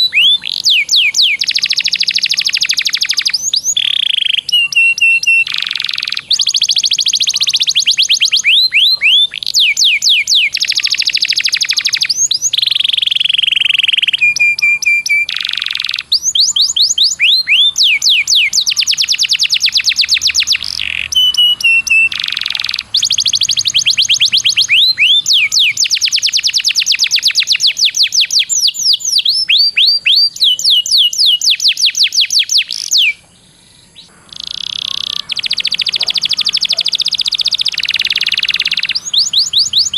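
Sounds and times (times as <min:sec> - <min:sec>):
small bird singing rolling trills: 0:00.0 - 0:39.9.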